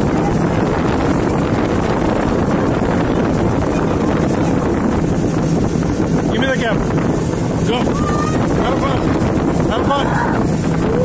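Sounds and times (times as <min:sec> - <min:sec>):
speedboat engine droning: 0:00.0 - 0:11.0
wind buffeting microphone: 0:00.0 - 0:11.0.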